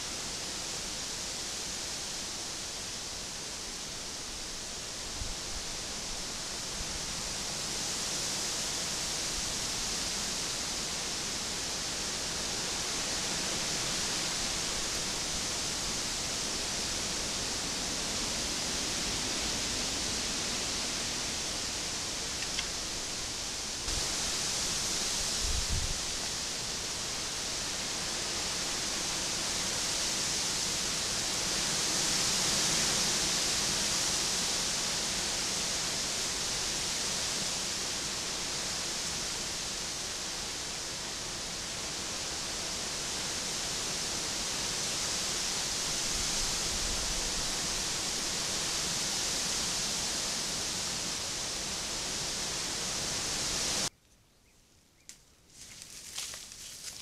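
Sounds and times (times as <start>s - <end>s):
faint outdoor ambience: 0.0s - 57.0s
microphone hiss: 0.0s - 57.0s.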